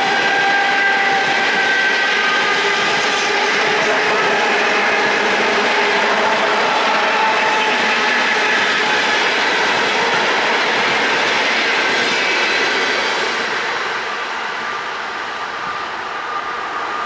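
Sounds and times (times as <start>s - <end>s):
train wheels on rail: 0.0s - 17.0s.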